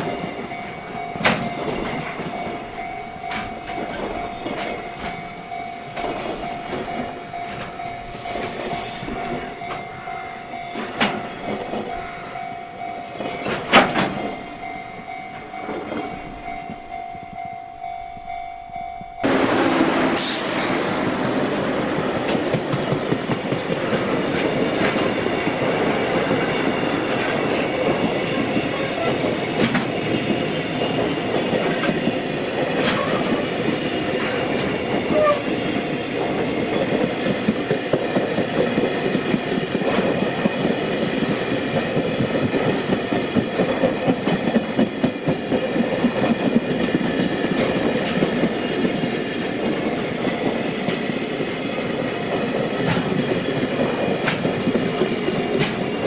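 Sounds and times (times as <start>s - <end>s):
wheels clickety-clack on rail joints: 0.0s - 17.6s, 18.2s - 56.0s
train wheels rumbling on rail: 0.0s - 56.0s.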